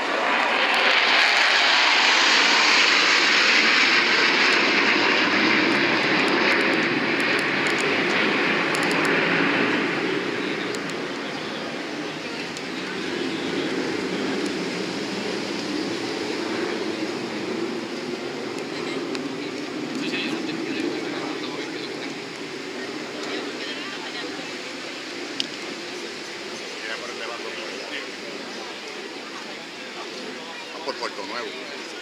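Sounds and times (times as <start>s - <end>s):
fighter jet engine roar: 0.0s - 32.0s.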